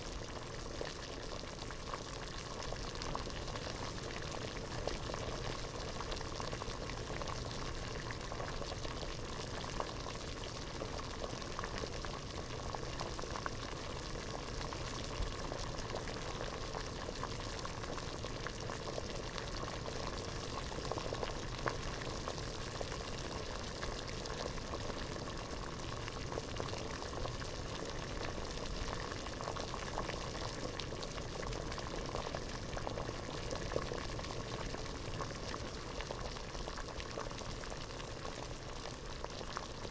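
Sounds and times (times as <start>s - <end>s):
water boiling in a pot: 0.0s - 39.9s.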